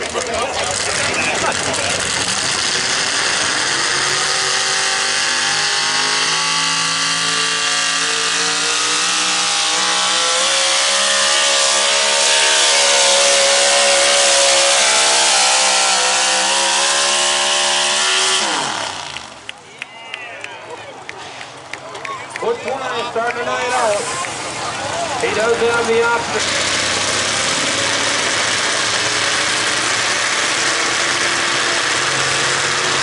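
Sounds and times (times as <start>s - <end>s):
truck engine at full throttle: 0.0s - 19.6s, 20.8s - 33.0s.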